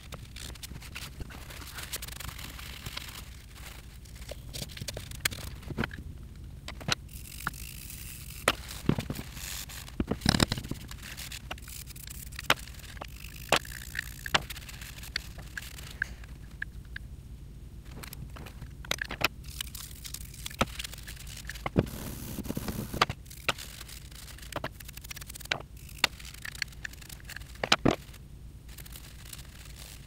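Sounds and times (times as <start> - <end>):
small metal clicks and scrapes: 0.0 - 6.0, 6.6 - 17.1, 17.8 - 30.0.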